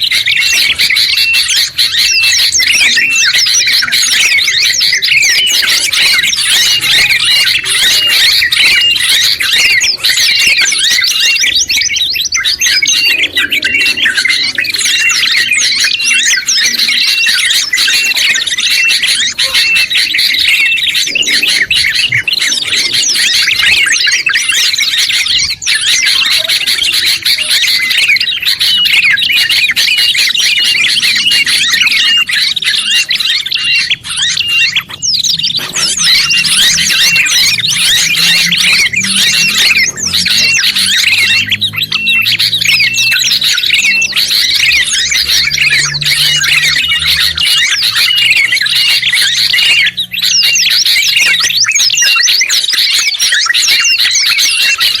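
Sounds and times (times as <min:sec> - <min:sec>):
songbird song and chatter: 0:00.0 - 0:55.0.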